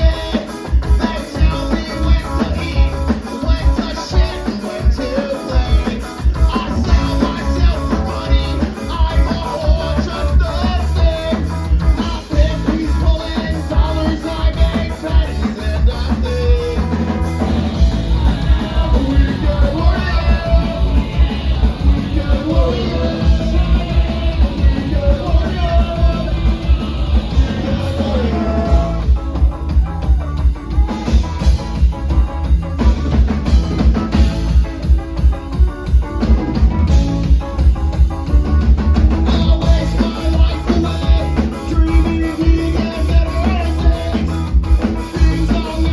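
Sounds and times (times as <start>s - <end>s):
person singing: 0.0s - 31.4s, 39.2s - 45.9s
punk rock band playing live: 0.0s - 45.9s.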